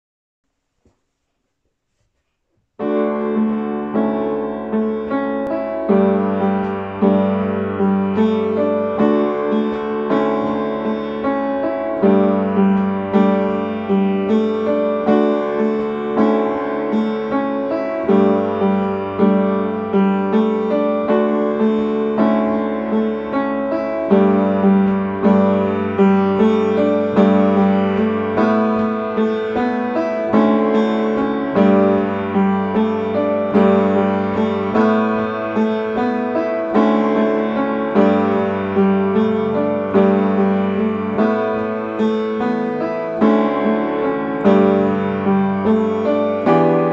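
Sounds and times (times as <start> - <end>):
piano chords: 2.8 - 46.9.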